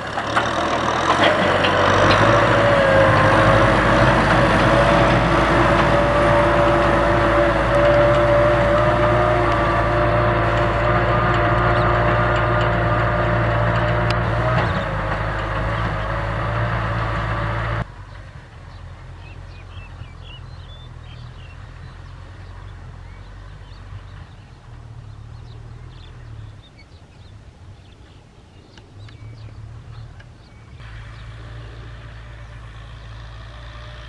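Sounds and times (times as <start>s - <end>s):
tractor diesel engine running: 0.0s - 27.6s, 29.0s - 34.0s
low engine hum: 0.0s - 34.0s.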